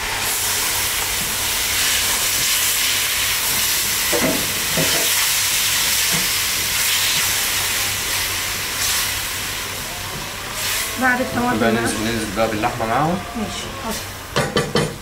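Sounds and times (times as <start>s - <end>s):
tomato puree sizzling in pot: 0.0s - 13.2s.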